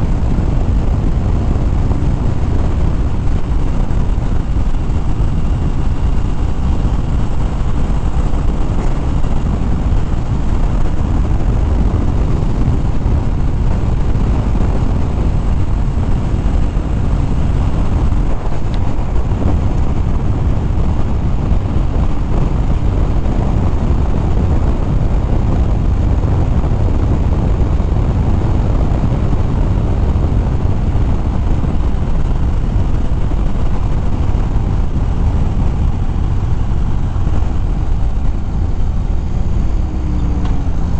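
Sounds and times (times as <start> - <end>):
motorcycle engine drone: 0.0 - 40.9
wind buffeting helmet microphone: 0.0 - 40.9.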